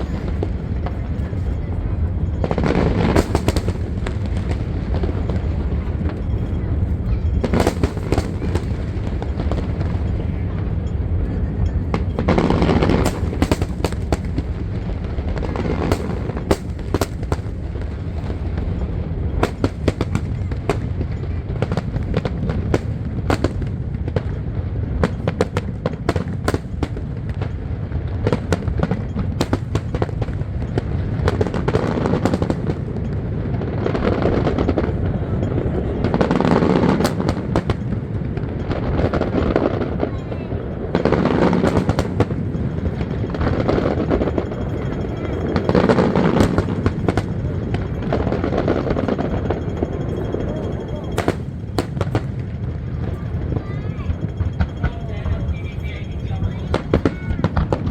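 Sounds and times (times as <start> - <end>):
fireworks cracks and bangs: 0.0 - 57.9
low rumble of shells bursting: 0.0 - 57.9.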